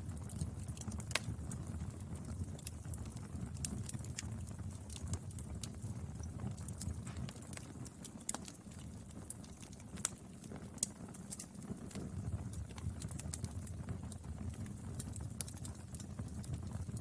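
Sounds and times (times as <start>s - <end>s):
fire crackling and popping: 0.0s - 17.0s
firewood burning: 0.0s - 17.0s.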